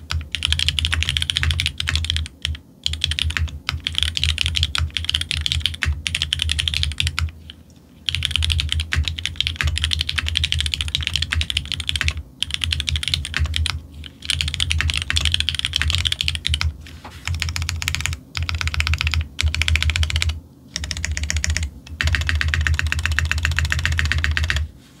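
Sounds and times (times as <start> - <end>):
fast mechanical keyboard typing: 0.0 - 24.7.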